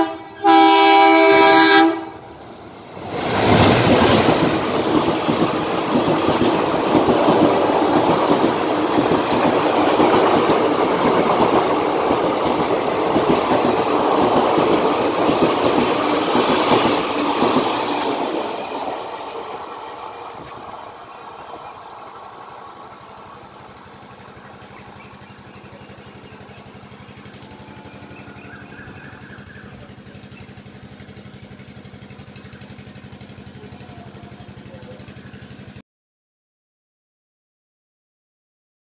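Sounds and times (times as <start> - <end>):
train coaches rolling by: 0.0 - 35.8.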